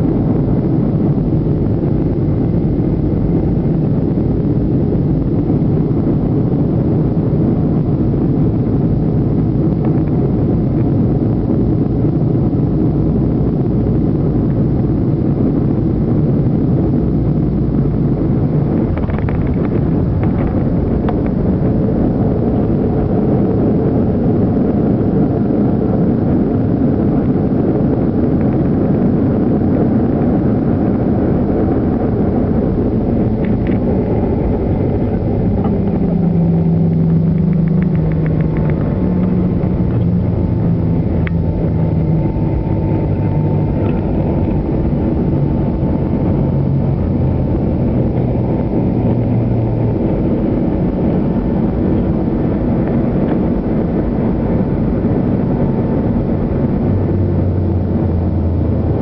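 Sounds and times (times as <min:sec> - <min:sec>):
aircraft engines and wheels rumbling: 0:00.0 - 0:59.0.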